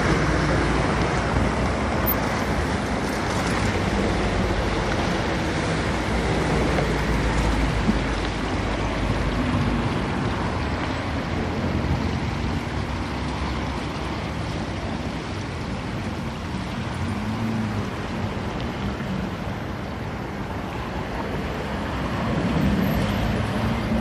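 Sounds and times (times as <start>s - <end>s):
brook babbling: 0.0s - 24.0s.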